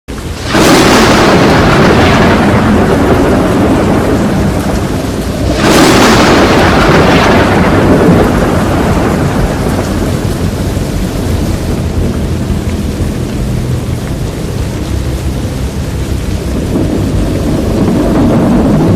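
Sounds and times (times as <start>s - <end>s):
heavy rain: 0.1s - 18.9s
thunder: 0.2s - 14.7s, 15.7s - 18.9s.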